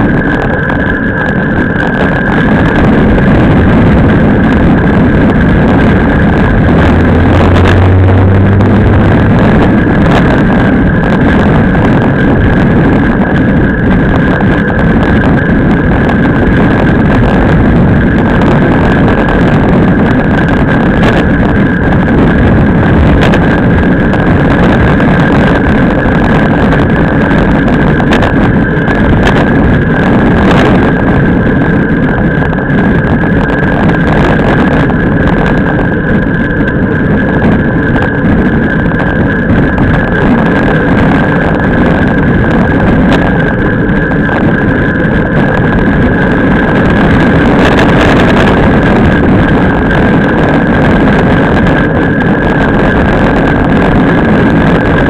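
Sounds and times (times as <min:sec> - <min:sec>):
thin steady whine: 0:00.0 - 0:55.0
wind rushing: 0:00.0 - 0:55.0.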